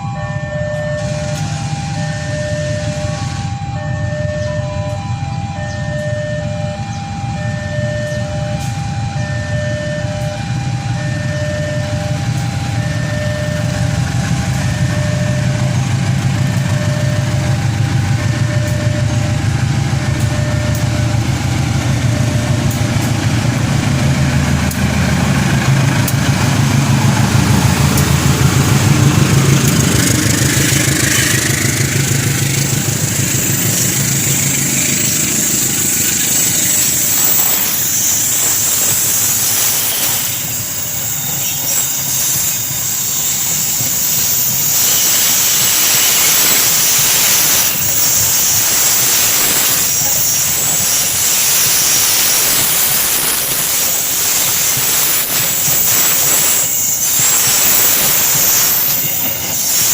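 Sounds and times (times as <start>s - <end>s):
level-crossing two-tone beep: 0.0s - 26.2s, 26.8s - 59.9s
diesel locomotive engine rumble: 0.0s - 59.9s
passing train rushing hiss: 0.0s - 59.9s.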